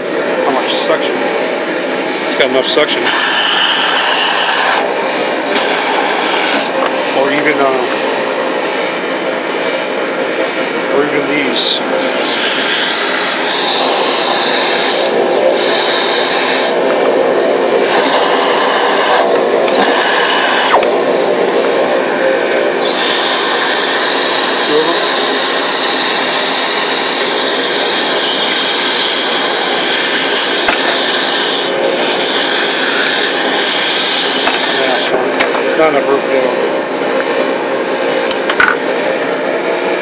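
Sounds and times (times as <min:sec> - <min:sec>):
dust collector hissing: 0:00.0 - 0:38.2.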